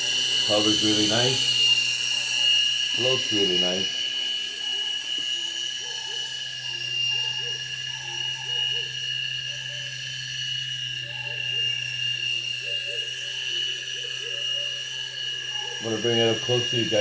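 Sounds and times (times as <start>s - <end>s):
electric motors whining: 0.0s - 17.0s
low rotor hum: 0.0s - 17.0s.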